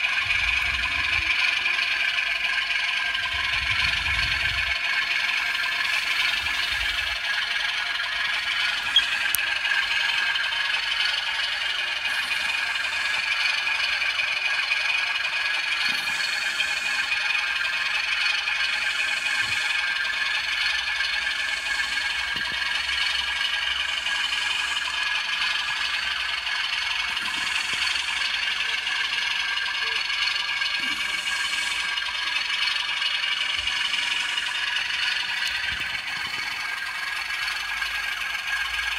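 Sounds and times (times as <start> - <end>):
model train whirring on track: 0.0 - 38.9.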